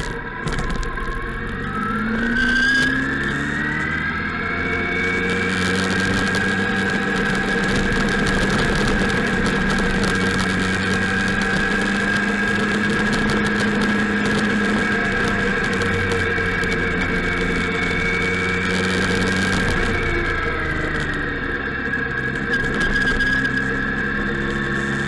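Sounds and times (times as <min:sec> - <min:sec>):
high whine: 0:00.0 - 0:25.0
motorcycle engine running: 0:00.0 - 0:25.0.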